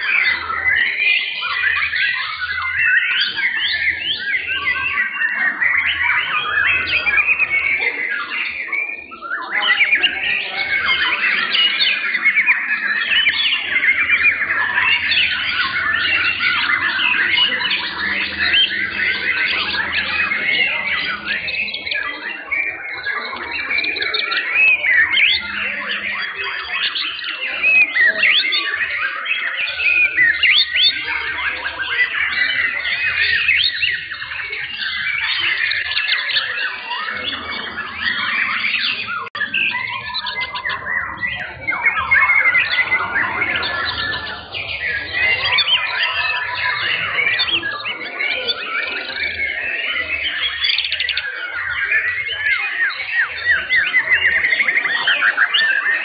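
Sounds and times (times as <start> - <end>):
birds singing in chorus: 0.0 - 56.0.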